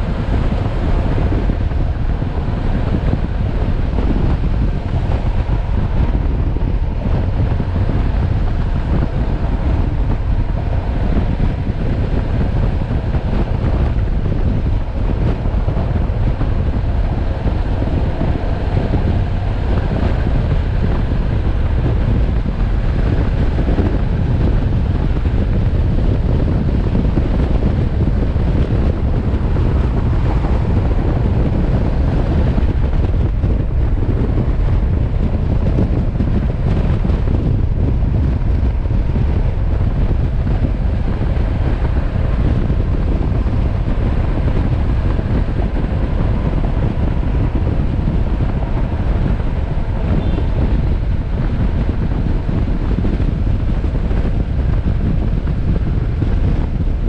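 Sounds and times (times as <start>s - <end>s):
motorcycle engine: 0.0s - 57.0s
road noise: 0.0s - 57.0s
wind noise on microphone: 0.0s - 57.0s.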